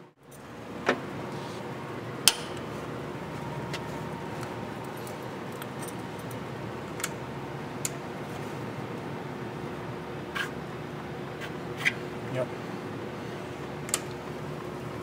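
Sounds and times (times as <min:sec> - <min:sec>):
machine steady hum: 0:00.0 - 0:15.0.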